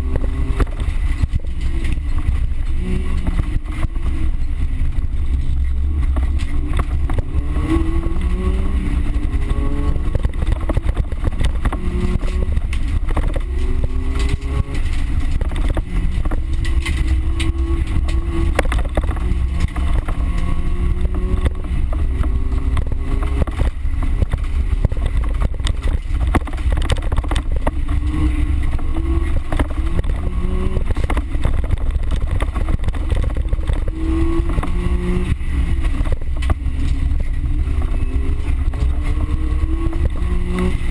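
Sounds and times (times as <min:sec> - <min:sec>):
car engine revving: 0:00.0 - 0:40.9
car knocks and rattles: 0:00.0 - 0:40.9.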